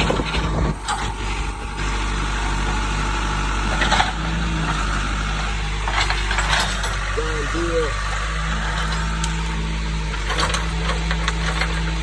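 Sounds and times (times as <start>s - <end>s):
diesel machinery engine running: 0.0s - 12.0s.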